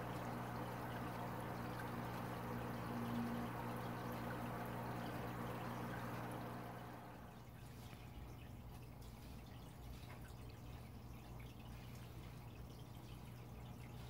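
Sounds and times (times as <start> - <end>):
small splashes: 0.0 - 14.0
steady low hum: 0.0 - 14.0
water trickling and dripping: 0.0 - 14.0.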